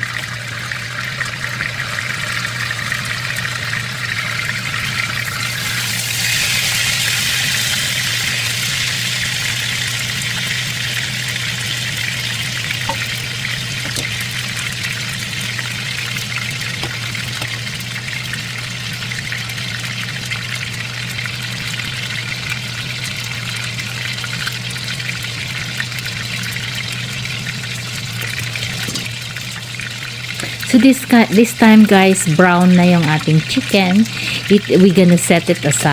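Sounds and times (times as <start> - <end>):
chicken frying in hot oil: 0.0 - 35.9.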